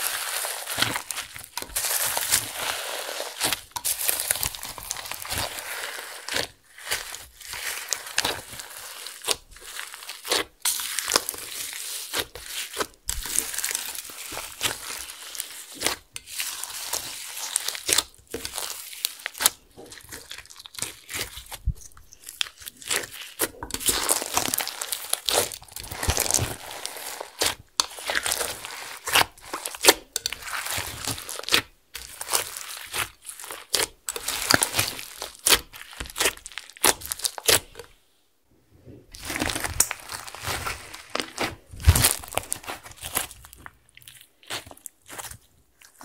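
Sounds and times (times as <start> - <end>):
slime crunching and popping: 0.0 - 38.0, 39.1 - 46.0.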